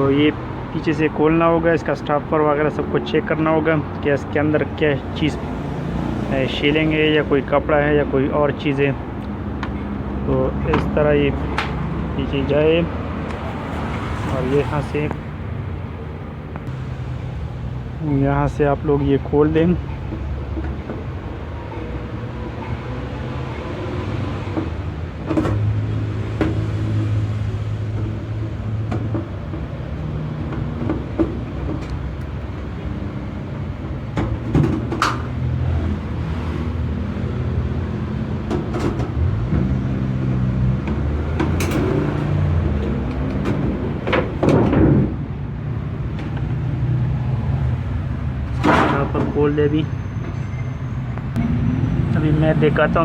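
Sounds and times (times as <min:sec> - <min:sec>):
passing traffic hum: 0:00.0 - 0:53.0.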